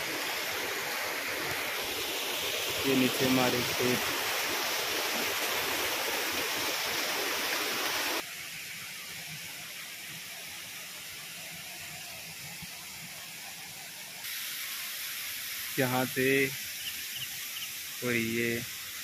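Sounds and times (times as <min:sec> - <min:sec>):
rushing stream water: 0:00.0 - 0:19.0.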